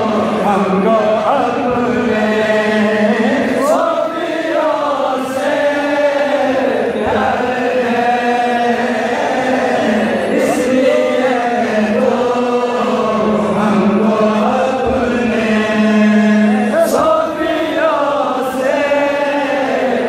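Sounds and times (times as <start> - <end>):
crowd chanting along: 0.0 - 20.0
man chanting: 0.0 - 20.0.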